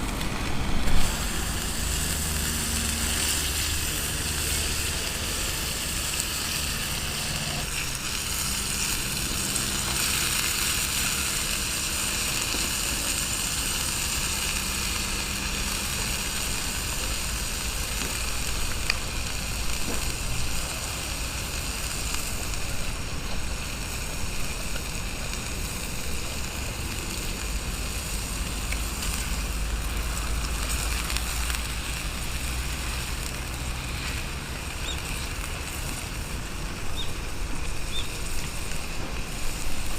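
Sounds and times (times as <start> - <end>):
fire crackles: 0.0 - 39.9
meat sizzling on a grill: 0.0 - 39.9.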